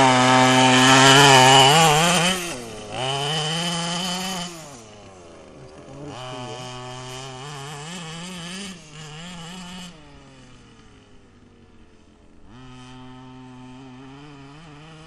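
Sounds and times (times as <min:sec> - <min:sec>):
model car engine revving: 0:00.0 - 0:15.0.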